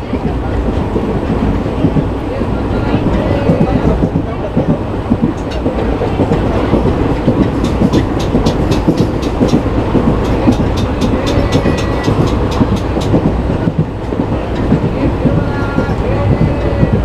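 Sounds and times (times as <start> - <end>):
train rumble on track: 0.0 - 17.0
wheels clicking on rails: 0.0 - 17.0.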